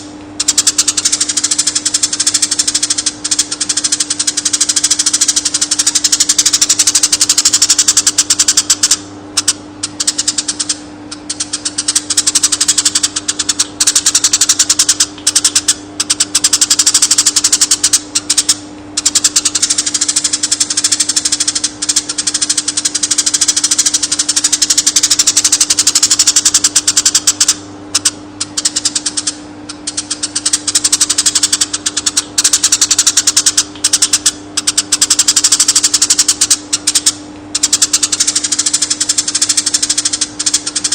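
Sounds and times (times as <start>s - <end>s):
bird chattering rapidly: 0.0s - 40.9s
steady low hum: 0.0s - 40.9s.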